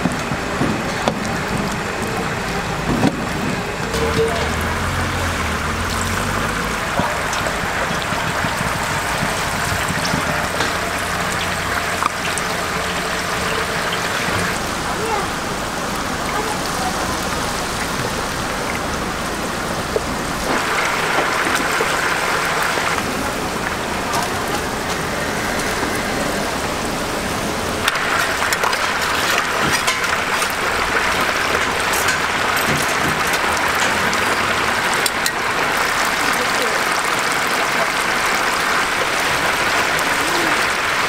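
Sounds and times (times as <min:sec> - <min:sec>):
chicken deep-frying in oil: 0:00.0 - 0:41.0.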